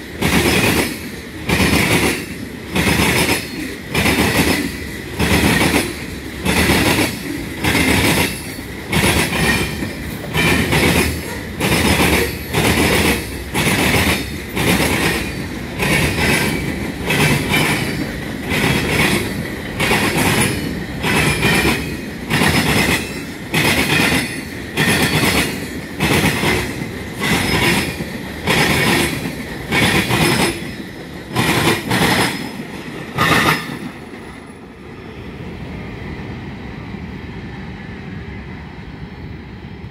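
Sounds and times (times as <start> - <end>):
train wheels clattering over rails: 0.0 - 34.8.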